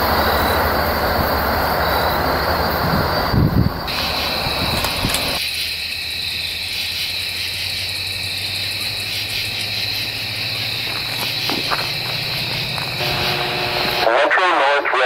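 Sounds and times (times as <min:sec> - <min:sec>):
high-pitched buzzing drone: 0:00.0 - 0:05.4, 0:07.1 - 0:14.6
distant diesel locomotive hum: 0:00.0 - 0:15.0.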